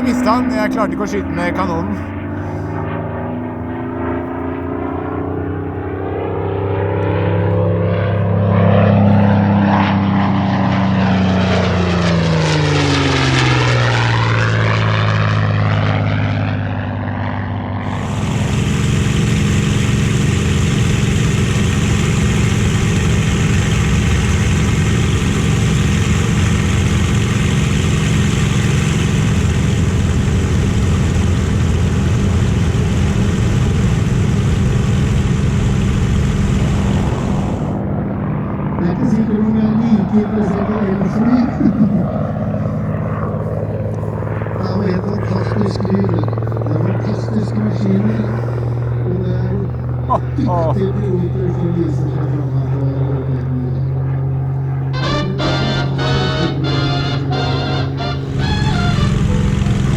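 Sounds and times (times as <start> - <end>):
harsh engine drone: 0.0 - 59.9
propeller plane flying past: 0.0 - 59.9.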